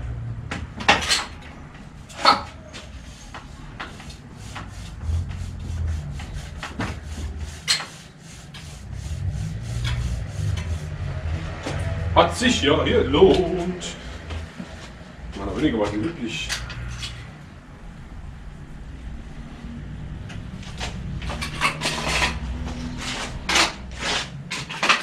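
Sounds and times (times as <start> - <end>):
metal rubbing and scraping: 1.0 - 17.4, 20.4 - 25.0.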